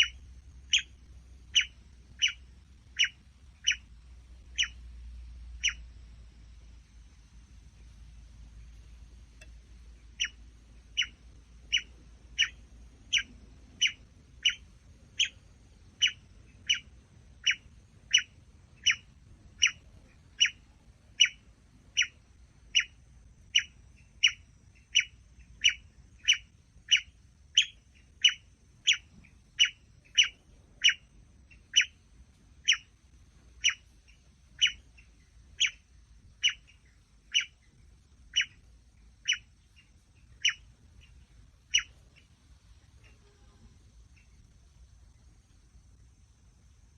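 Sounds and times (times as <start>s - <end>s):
bird chirping: 0.0s - 46.0s.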